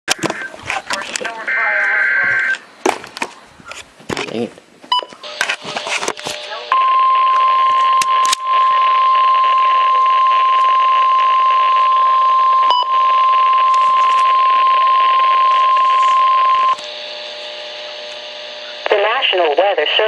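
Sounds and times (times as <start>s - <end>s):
weather radio alarm tone: 0.1s - 2.6s, 5.0s - 20.0s.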